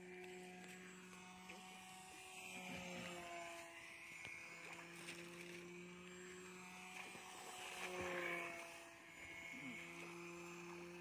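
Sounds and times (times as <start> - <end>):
model plane motor buzzing: 0.0 - 11.0.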